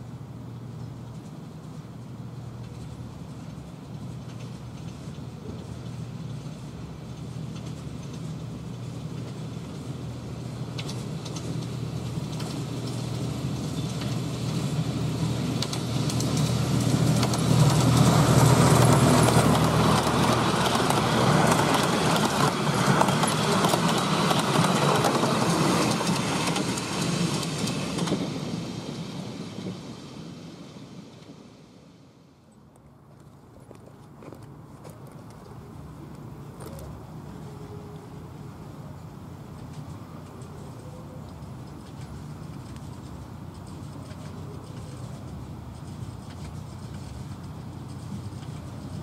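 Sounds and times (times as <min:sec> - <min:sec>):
wheels and coaches rattling and clicking: 0:00.0 - 0:29.8, 0:32.5 - 0:49.0
locomotive engine droning: 0:00.0 - 0:30.5, 0:31.2 - 0:49.0.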